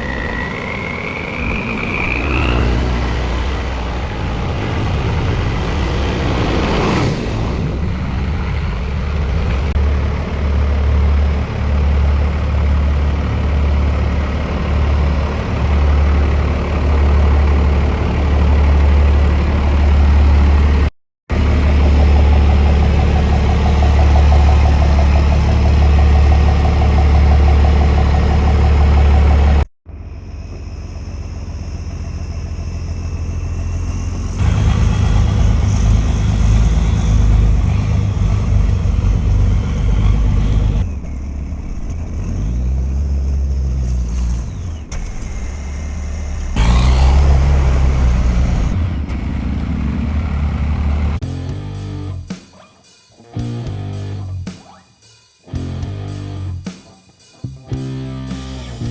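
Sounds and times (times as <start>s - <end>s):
vehicle engine idling: 0.0s - 6.1s, 7.6s - 52.4s
engine drone: 0.0s - 52.4s, 53.2s - 54.9s, 55.5s - 58.9s.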